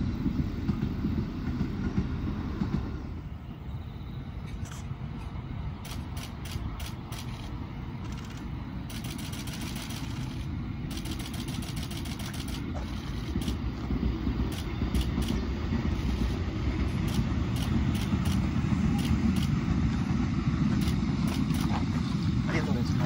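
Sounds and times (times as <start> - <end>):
vehicle rumbling in motion: 0.0 - 23.0.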